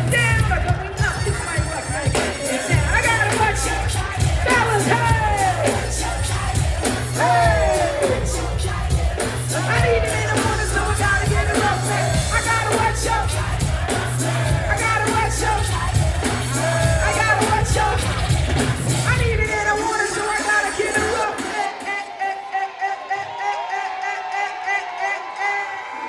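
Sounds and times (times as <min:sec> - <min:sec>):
hip-hop bass beat with hi-hats: 0:00.0 - 0:22.2
person singing: 0:00.0 - 0:26.0.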